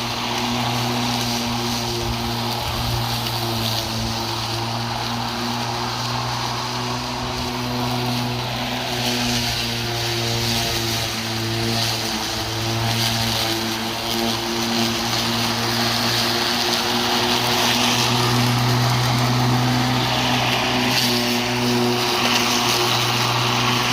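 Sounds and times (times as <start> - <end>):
electric lawn mower cutting grass: 0.0 - 23.9.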